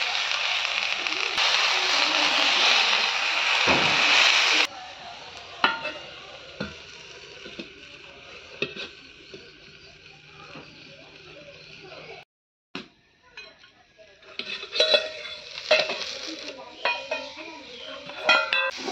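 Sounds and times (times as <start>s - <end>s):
greens sizzling in a pan: 0.0s - 12.2s, 13.6s - 18.9s.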